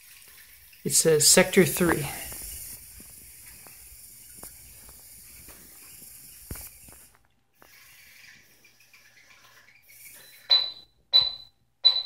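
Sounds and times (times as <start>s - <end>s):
faint steady hiss: 0.0s - 10.5s.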